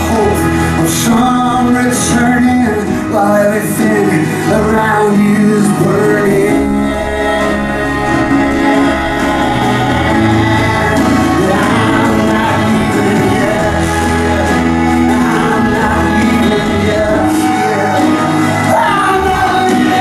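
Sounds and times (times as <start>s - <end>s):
bass guitar: 0.0s - 20.0s
person singing: 0.0s - 20.0s
strummed acoustic guitar: 0.0s - 20.0s.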